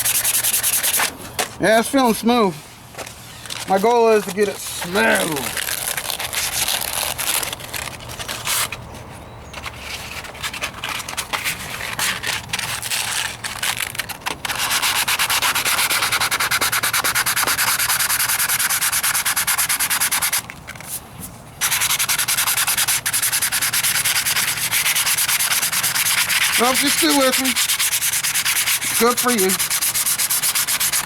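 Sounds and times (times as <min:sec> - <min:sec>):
sandpaper rubbing back and forth: 0:00.0 - 0:01.2, 0:03.3 - 0:08.8, 0:09.8 - 0:21.0, 0:21.6 - 0:31.0.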